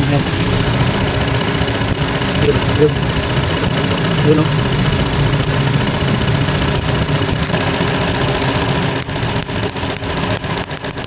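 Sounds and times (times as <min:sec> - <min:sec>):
car engine idling roughly: 0:00.0 - 0:11.0
irregular sharp ticks: 0:00.0 - 0:11.0.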